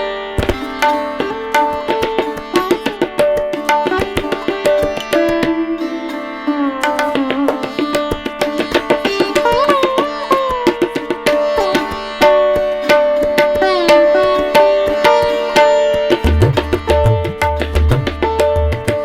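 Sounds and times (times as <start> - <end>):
plucked string melody: 0.0 - 19.0
rapid tabla strokes: 0.4 - 6.0, 6.8 - 19.0.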